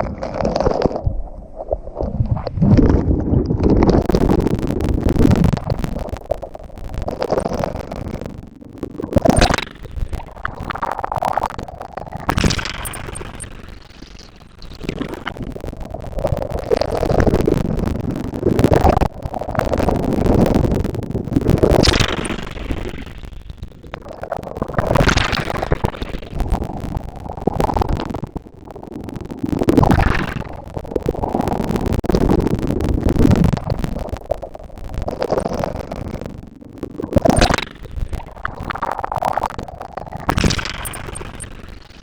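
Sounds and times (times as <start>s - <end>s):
steady low rumble: 1.1s - 42.0s.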